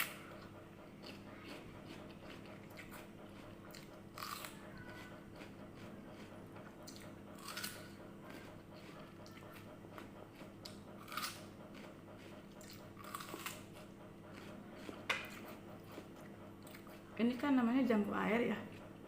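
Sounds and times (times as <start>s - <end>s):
quiet chewing: 0.0s - 17.2s.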